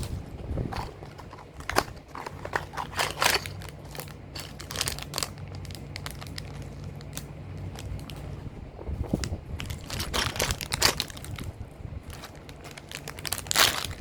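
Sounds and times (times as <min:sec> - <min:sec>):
low steady hum: 0:00.0 - 0:14.0
packaging crinkling and rustling: 0:00.0 - 0:14.0.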